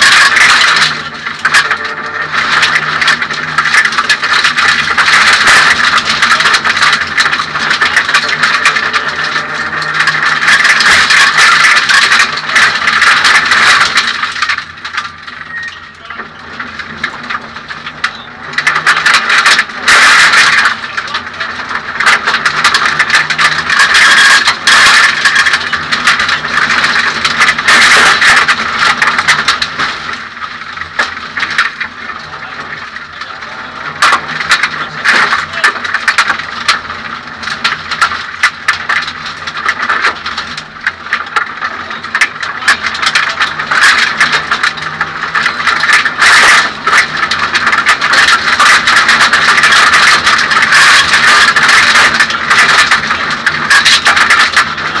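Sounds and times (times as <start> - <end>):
rally car engine running hard: 0.0 - 55.0.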